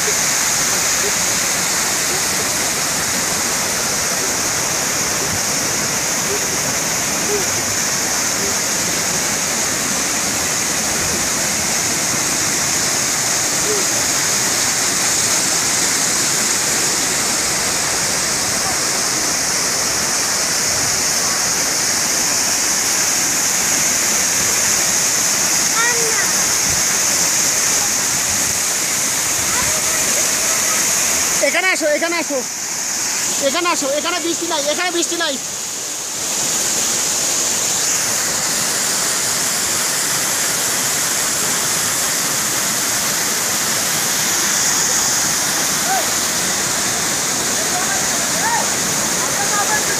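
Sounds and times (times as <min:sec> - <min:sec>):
waterfall rushing over boulders: 0:00.0 - 0:49.9.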